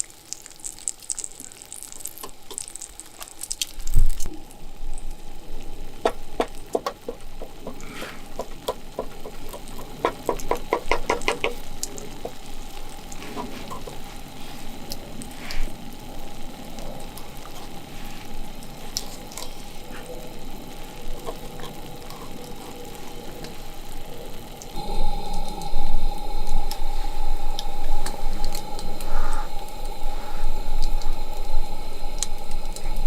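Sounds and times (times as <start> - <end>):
campfire crackles: 0.0 - 33.0
food sizzling in a pan: 0.0 - 33.0.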